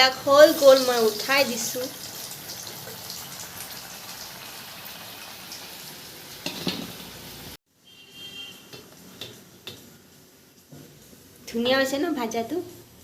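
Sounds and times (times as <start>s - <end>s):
oil sizzling in a pan: 0.0s - 7.6s, 8.2s - 13.0s.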